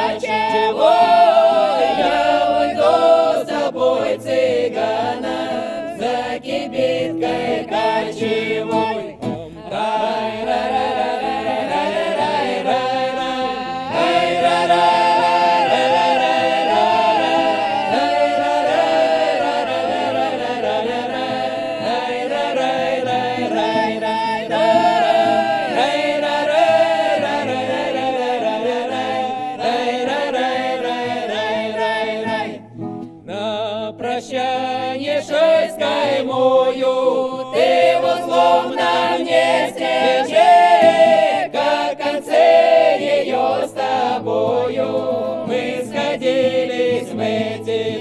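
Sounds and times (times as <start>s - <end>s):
wordless vocal ensemble singing: 0.0s - 48.0s.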